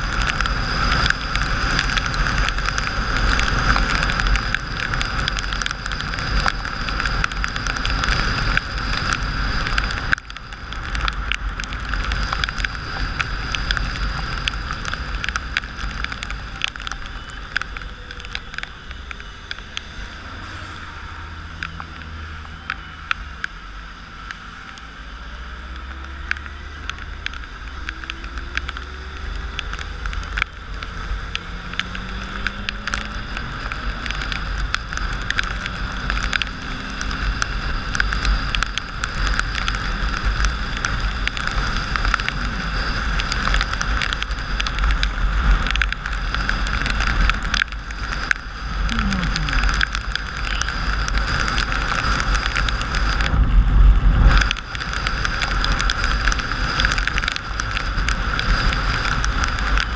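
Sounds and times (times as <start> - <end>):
raindrops ticking on camera: 0.0 - 59.9
tyres hissing on wet road: 0.0 - 59.9
wind rumble: 0.0 - 59.9.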